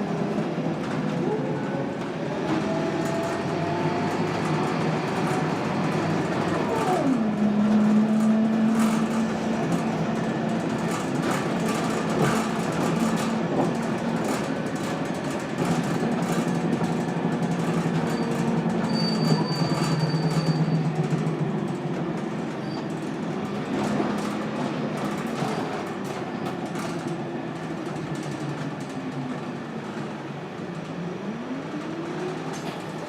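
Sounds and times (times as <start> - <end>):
bus diesel engine droning: 0.0 - 33.0.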